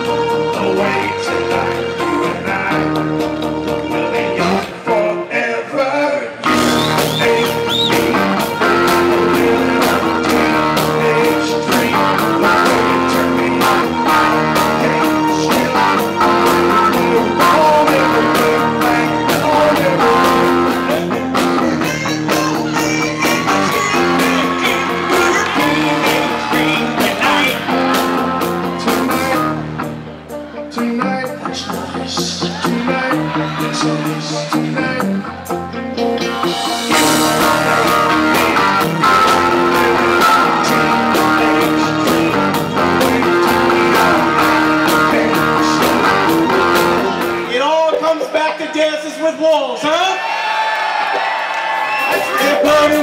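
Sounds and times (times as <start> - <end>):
men singing: 0.0 - 29.7, 30.7 - 35.4, 36.2 - 48.0, 52.3 - 53.0
live rock band: 0.0 - 49.4, 51.0 - 53.0.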